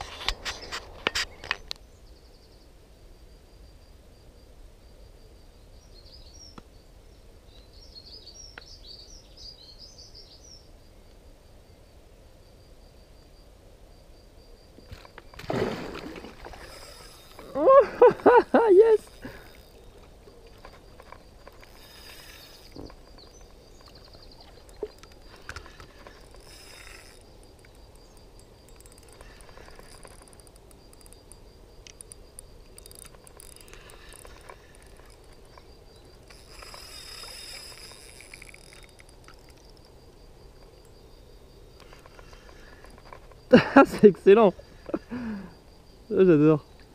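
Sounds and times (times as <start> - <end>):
faint insect chirping: 0.0 - 46.9.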